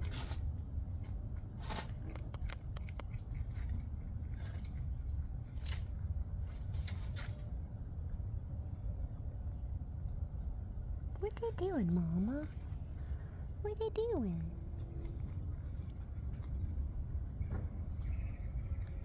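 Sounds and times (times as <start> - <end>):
rabbits nibbling food: 0.0 - 8.4, 10.0 - 19.0
steady low rumble: 0.0 - 19.0.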